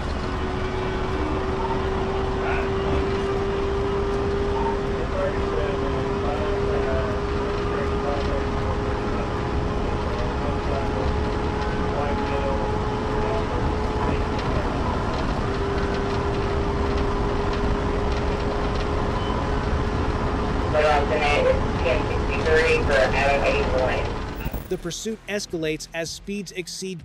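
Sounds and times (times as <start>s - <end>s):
car driving at high speed: 0.0s - 24.8s.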